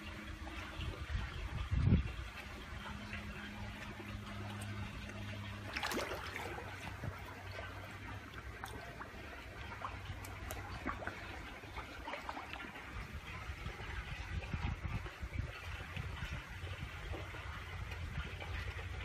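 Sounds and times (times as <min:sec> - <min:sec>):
low steady hum: 0:00.0 - 0:19.0
pond water trickling and lapping: 0:00.0 - 0:19.0
water splashes: 0:00.0 - 0:19.0.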